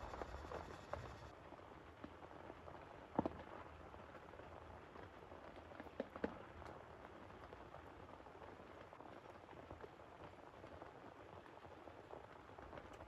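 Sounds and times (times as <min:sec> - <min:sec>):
soft rain falling: 0:00.0 - 0:13.0.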